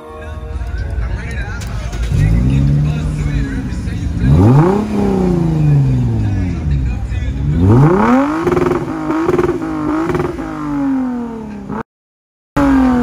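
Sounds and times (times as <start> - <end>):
car engine revving: 0.9 - 11.8, 12.6 - 13.0.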